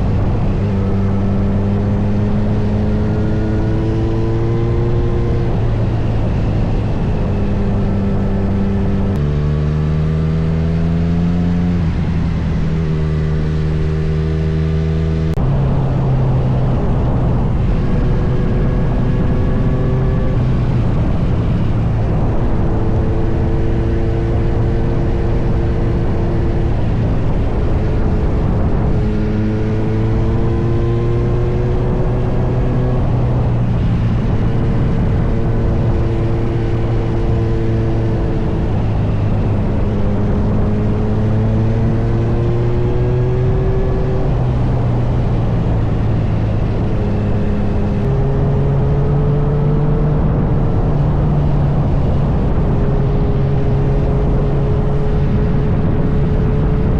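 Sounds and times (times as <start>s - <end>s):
motorcycle engine accelerating: 0.0s - 56.9s
wind noise: 0.0s - 56.9s.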